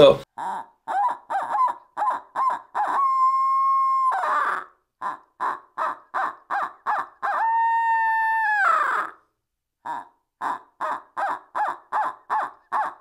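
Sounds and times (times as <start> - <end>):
owl call hoots: 0.4 - 9.2, 9.8 - 13.0.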